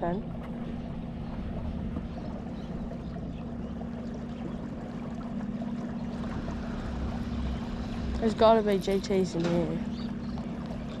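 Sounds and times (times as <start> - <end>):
boat motor humming: 0.0 - 11.0
water washing along hull: 0.0 - 11.0.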